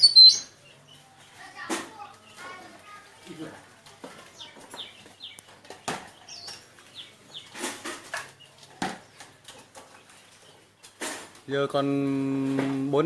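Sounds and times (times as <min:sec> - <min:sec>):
birds giving high chirps: 0:00.0 - 0:12.2.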